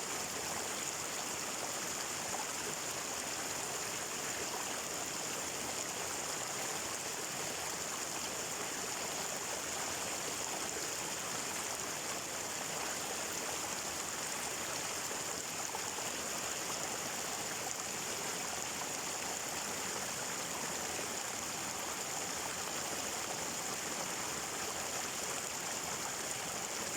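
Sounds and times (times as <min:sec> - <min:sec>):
stream water flowing: 0:00.0 - 0:26.9.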